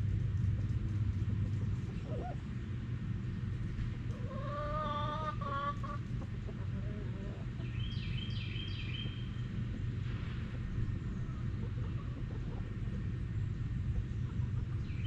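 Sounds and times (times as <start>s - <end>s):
steady low hum: 0.0s - 15.0s
chickens calling: 1.3s - 2.6s, 4.0s - 15.0s.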